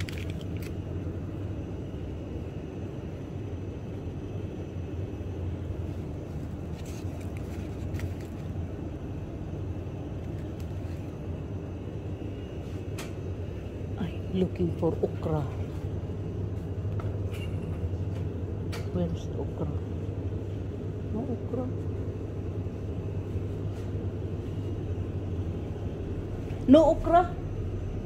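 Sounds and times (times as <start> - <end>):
supermarket background rumble: 0.0 - 28.0.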